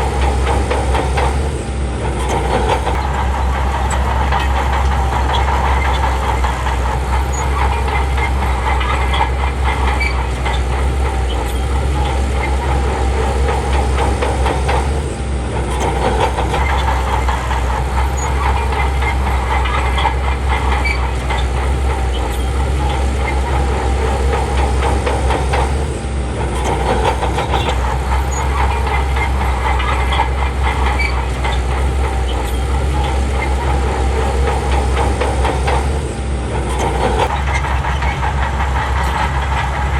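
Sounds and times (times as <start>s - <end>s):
bulldozer diesel engine under load: 0.0s - 39.9s
steel tracks clattering: 0.0s - 39.9s.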